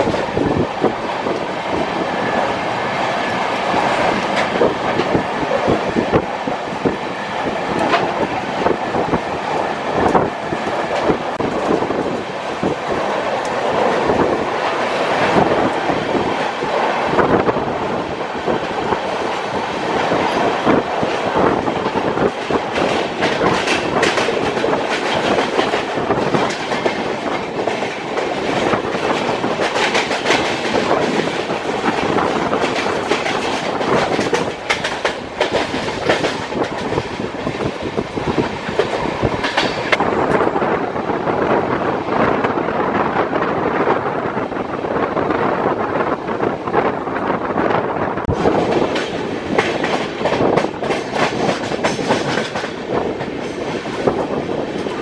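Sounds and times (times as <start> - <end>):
train wheels clacking on rails: 0.0 - 40.8, 48.2 - 55.0
rush of wind: 0.0 - 55.0.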